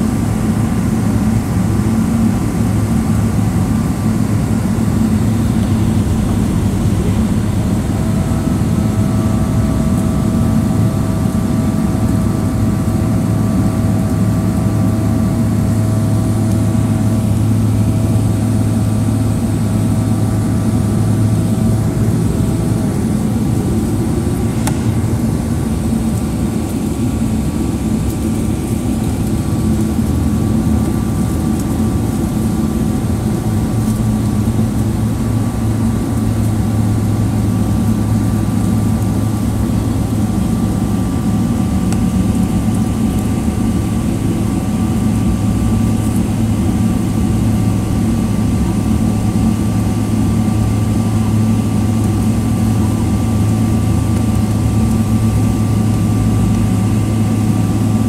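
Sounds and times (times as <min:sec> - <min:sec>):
aircraft cabin engine drone: 0:00.0 - 0:58.0
faint engine whine: 0:00.0 - 0:58.0.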